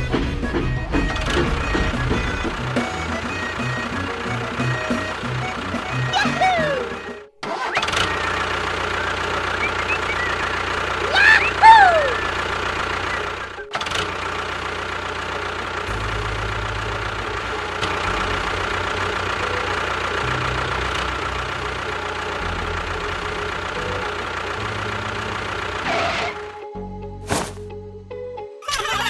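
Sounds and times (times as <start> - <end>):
engine running: 0.0 - 26.6.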